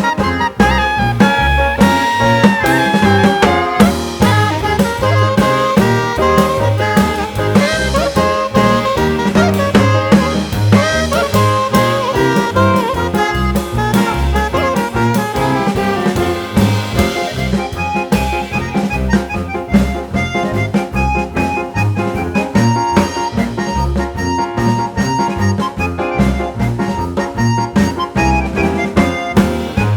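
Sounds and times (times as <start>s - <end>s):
steady drum beat: 0.0s - 29.9s
swing jazz music: 0.0s - 29.9s
walking bass line: 0.0s - 29.9s.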